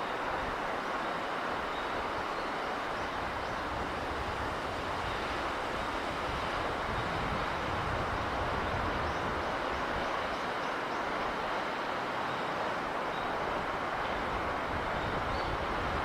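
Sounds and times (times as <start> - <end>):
sea breeze and surf: 0.0 - 16.0.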